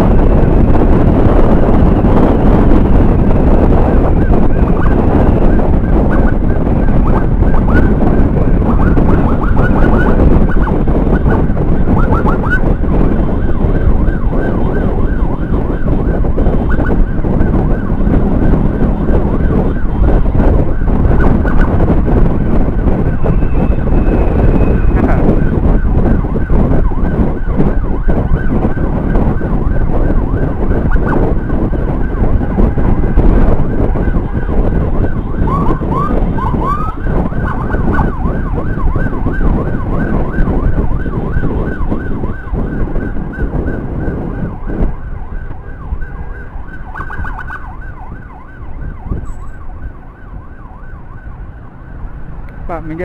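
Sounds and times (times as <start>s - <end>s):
emergency siren warbling: 0.0s - 53.0s
wind rush: 0.0s - 53.0s.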